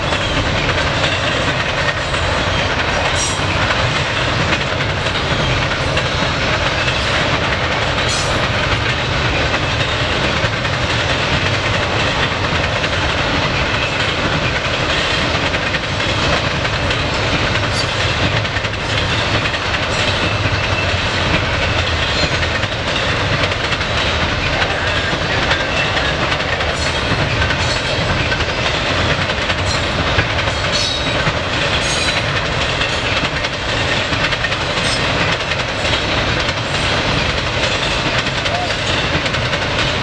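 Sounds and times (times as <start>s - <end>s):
freight train rumbling past: 0.0s - 40.0s
sharp clicks from train cars: 0.0s - 40.0s
wheels clacking over rails: 0.0s - 40.0s.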